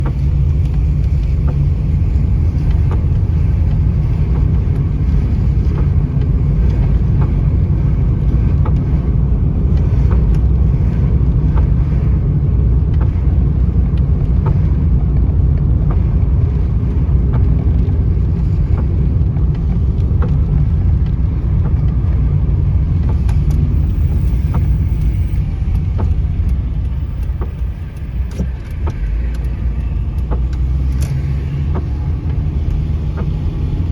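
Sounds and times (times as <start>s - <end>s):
car rumble on road: 0.0s - 33.9s
light ticks: 0.0s - 33.9s.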